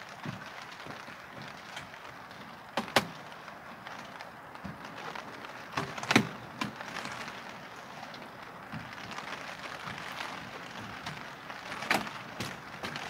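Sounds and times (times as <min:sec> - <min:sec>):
raindrops tapping on a surface: 0:00.0 - 0:13.0
steady rain: 0:00.0 - 0:13.0.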